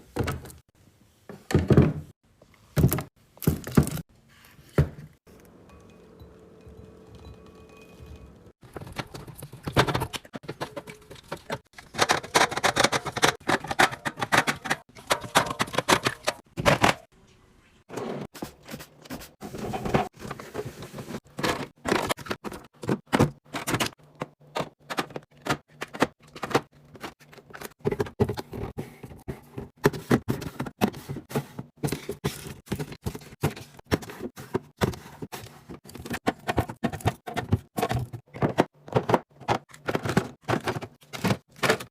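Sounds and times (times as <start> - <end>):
containers and bottles clattering: 5.7 - 17.1, 19.5 - 41.9.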